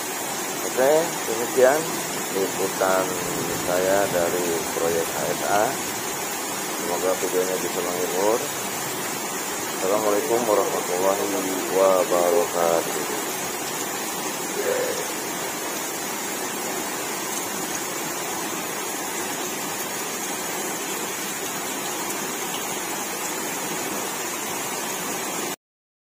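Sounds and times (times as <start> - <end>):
river rushing: 0.0 - 25.6.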